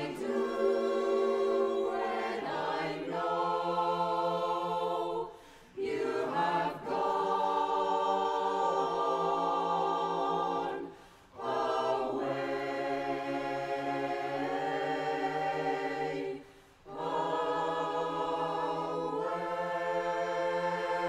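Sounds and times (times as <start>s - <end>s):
chorus singing a cappella: 0.0s - 21.0s.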